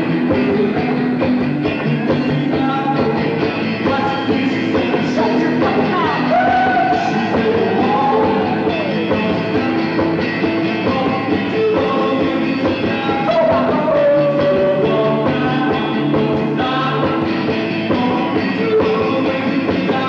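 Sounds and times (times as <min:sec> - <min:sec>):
electric guitar: 0:00.0 - 0:20.0
man singing: 0:00.0 - 0:20.0
rock band playing live: 0:00.0 - 0:20.0.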